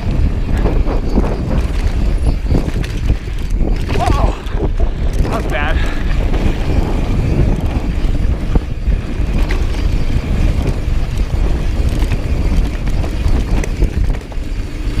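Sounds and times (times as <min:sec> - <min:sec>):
bike clicks and rattles: 0:00.0 - 0:15.0
tyres rumbling over dirt: 0:00.0 - 0:15.0
wind buffeting microphone: 0:00.0 - 0:15.0.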